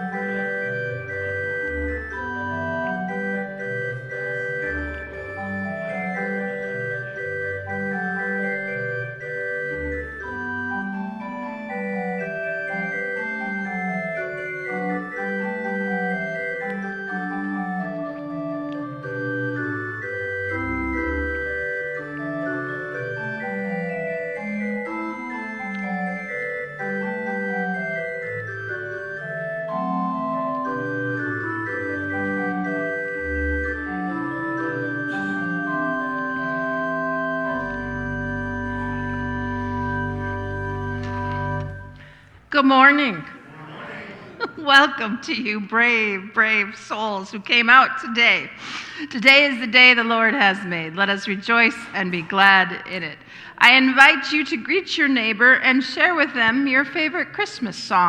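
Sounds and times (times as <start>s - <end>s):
organ music: 0.0s - 58.0s.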